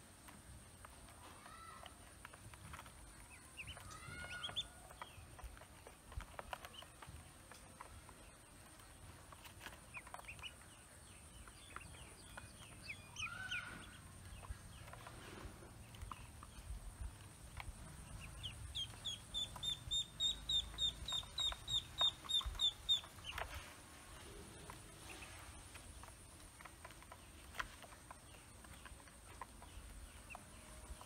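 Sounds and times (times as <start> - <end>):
ducklings peeping: 0.3 - 31.0.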